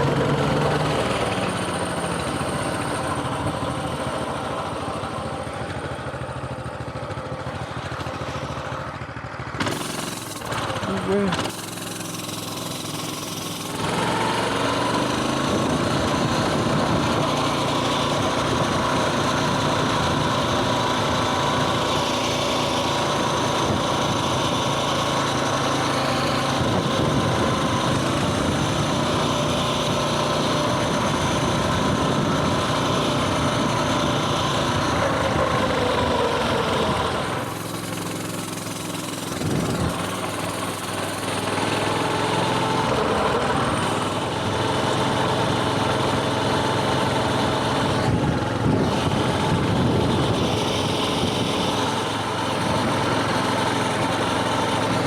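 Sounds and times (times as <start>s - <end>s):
mini bike engine running: 0.0s - 55.0s.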